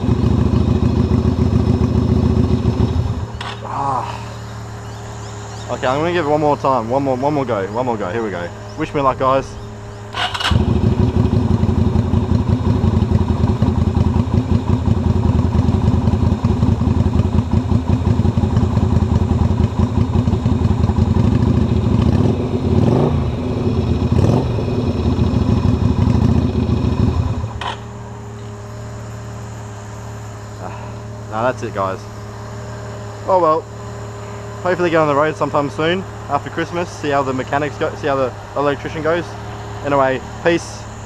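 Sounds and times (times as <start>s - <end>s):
motorcycle starter cranking engine: 0.0s - 22.0s, 25.2s - 41.0s.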